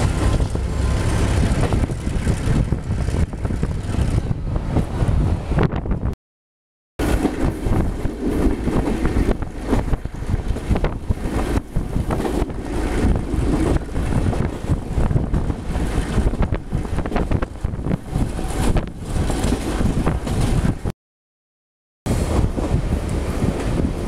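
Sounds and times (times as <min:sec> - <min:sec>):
train wheels rumbling on rails: 0:00.0 - 0:06.1, 0:07.0 - 0:20.9, 0:22.1 - 0:24.0
wind buffeting microphone: 0:00.0 - 0:06.2, 0:07.0 - 0:20.9, 0:22.1 - 0:24.0.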